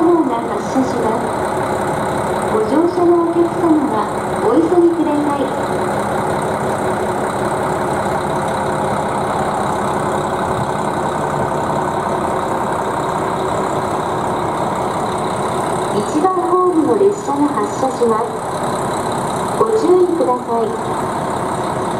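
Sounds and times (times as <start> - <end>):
diesel train engine idling: 0.0 - 21.9.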